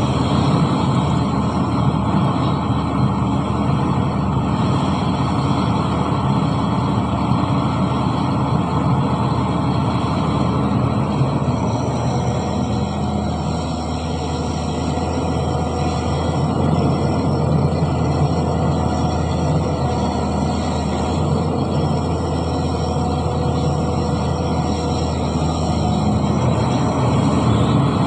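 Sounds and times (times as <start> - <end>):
heavy diesel machinery engine running: 0.0 - 28.0.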